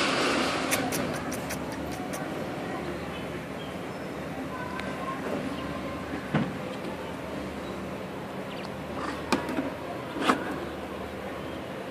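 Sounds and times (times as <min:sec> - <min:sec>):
steady background noise: 0:00.0 - 0:11.9.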